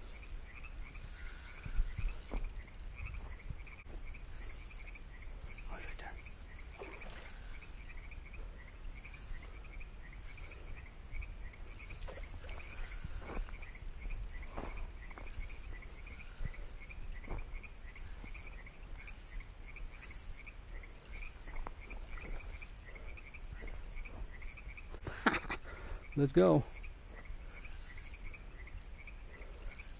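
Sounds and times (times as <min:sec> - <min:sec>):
frogs calling: 0:00.0 - 0:29.9
high buzzing trills: 0:00.0 - 0:29.9.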